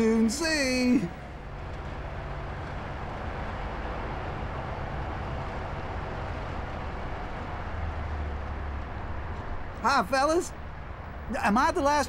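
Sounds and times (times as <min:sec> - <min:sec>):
diesel truck engine hum: 0:00.0 - 0:12.0
road noise hiss: 0:00.0 - 0:12.0.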